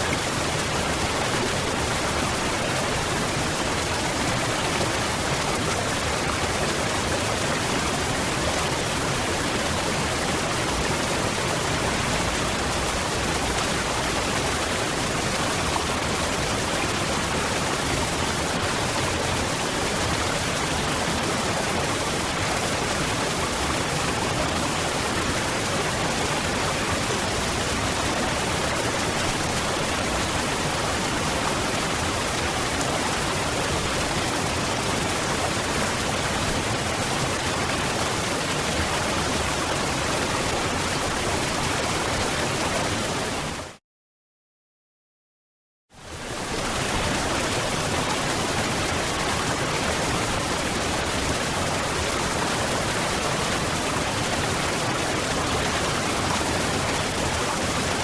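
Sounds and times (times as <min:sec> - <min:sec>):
waterfall: 0:00.0 - 0:43.8, 0:46.0 - 0:58.0.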